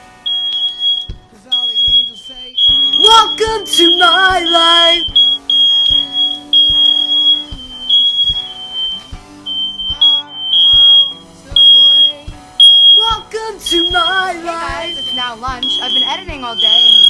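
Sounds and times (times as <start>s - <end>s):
music with a steady beat: 0.0s - 17.0s
smoke alarm beeping: 0.0s - 17.0s.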